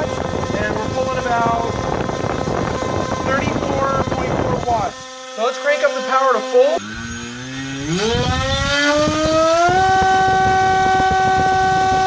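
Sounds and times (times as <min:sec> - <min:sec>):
brushless motor whine: 0:00.0 - 0:12.0.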